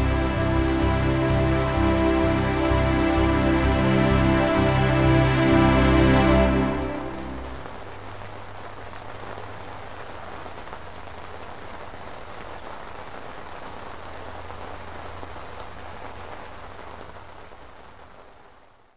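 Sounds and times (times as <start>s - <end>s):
steady rain: 0.0s - 18.9s.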